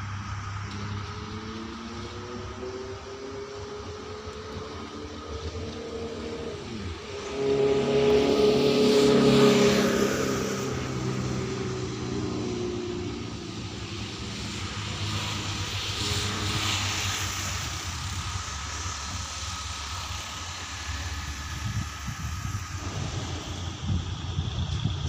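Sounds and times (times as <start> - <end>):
diesel locomotive engine droning: 0.0 - 25.0
train rumbling and rattling: 0.0 - 25.0.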